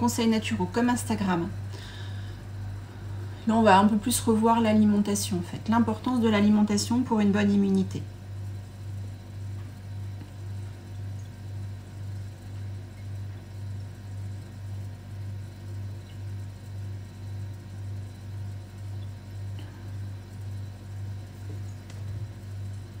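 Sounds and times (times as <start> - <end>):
pulsing low mechanical hum: 0.0 - 23.0.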